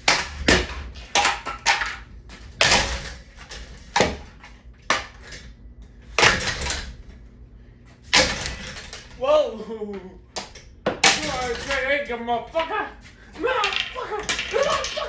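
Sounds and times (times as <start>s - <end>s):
ceiling fan being smashed: 0.0s - 5.5s, 6.1s - 7.2s, 8.0s - 15.0s.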